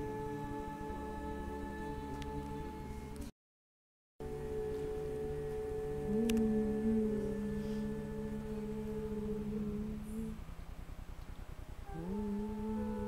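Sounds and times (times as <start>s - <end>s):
group chanting low note: 0.0s - 3.2s, 4.2s - 10.6s, 11.8s - 13.0s.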